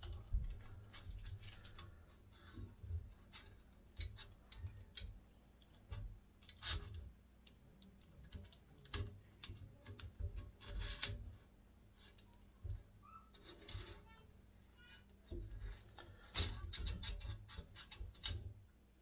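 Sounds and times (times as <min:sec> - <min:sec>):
scraping rub: 0:00.0 - 0:05.0, 0:08.2 - 0:18.6
clicks and taps of parts: 0:00.0 - 0:14.0, 0:15.2 - 0:18.6.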